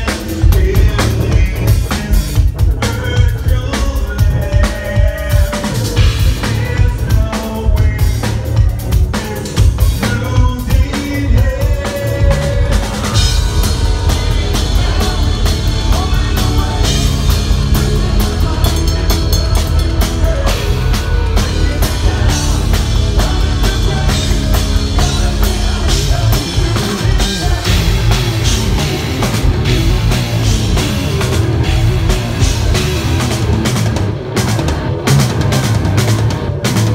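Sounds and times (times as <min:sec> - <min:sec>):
sung vocals: 0:00.0 - 0:34.0
double-bass drum pounding: 0:00.0 - 0:36.9
live metal band playing: 0:00.0 - 0:36.9.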